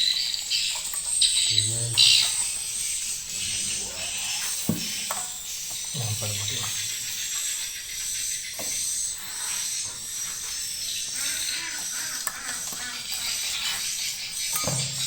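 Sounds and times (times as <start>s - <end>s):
swiftlets chirping and twittering: 0.0s - 15.0s.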